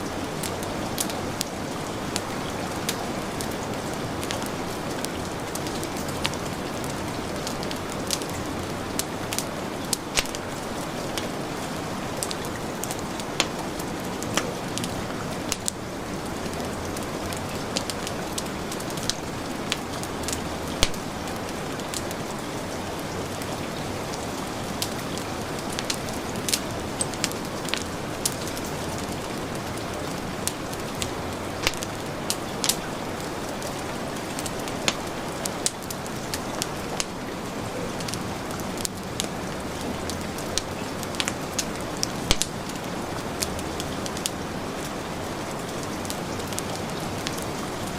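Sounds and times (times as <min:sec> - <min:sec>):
heavy rain hiss: 0:00.0 - 0:47.9
wood fire popping and snapping: 0:00.0 - 0:47.9.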